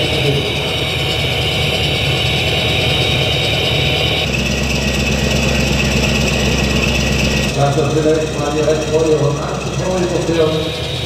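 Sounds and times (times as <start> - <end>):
model tank engine idling: 0.0 - 11.0.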